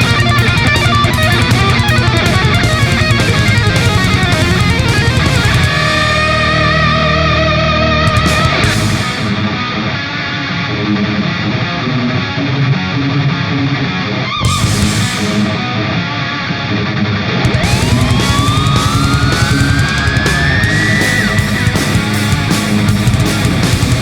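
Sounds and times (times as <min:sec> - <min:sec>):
rock music with electric guitar: 0:00.0 - 0:24.0.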